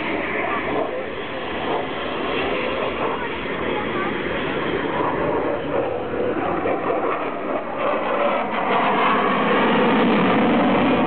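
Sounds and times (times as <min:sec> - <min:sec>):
jet engines with afterburners: 0:00.0 - 0:11.0.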